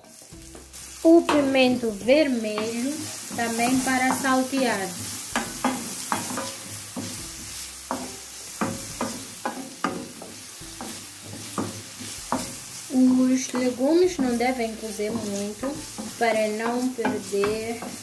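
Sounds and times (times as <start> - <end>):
peppers sizzling in oil: 0.0 - 18.0.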